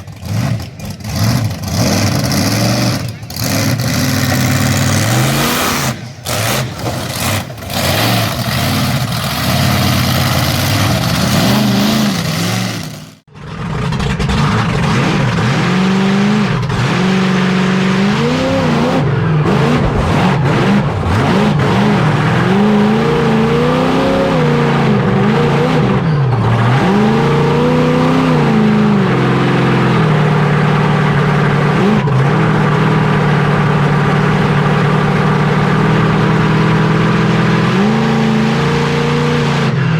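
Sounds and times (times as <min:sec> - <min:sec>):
truck engine revving hard: 0:00.0 - 0:39.9.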